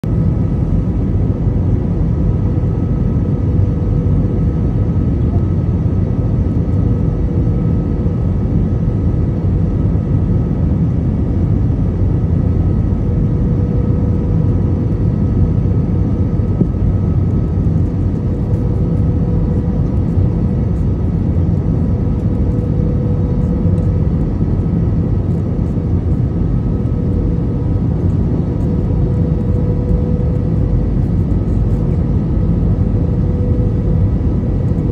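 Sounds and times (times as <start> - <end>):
engine and airflow rush: 0.0 - 34.9
faint constant hum: 0.0 - 34.9.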